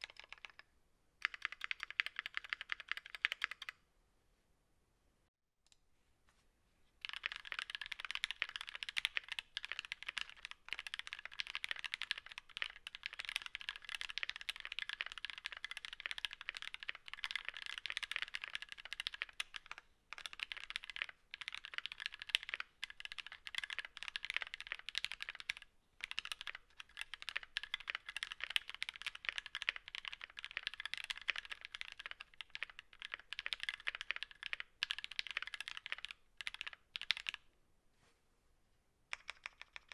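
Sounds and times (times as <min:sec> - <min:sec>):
mechanical keyboard typing: 0:00.0 - 0:03.8, 0:07.0 - 0:37.4, 0:39.1 - 0:39.9.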